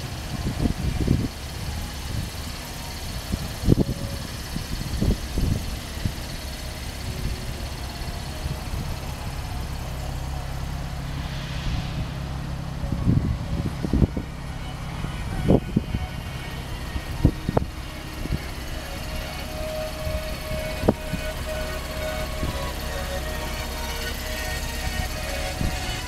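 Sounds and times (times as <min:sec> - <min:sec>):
vehicle engine idling: 0:00.0 - 0:26.0
wind buffeting microphone: 0:00.0 - 0:26.0.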